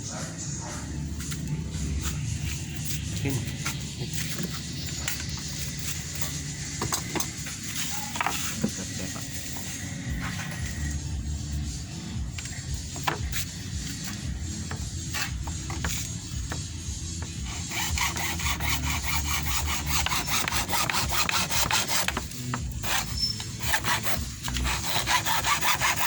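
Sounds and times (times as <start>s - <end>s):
rasping strokes on steel: 1.1s - 26.0s.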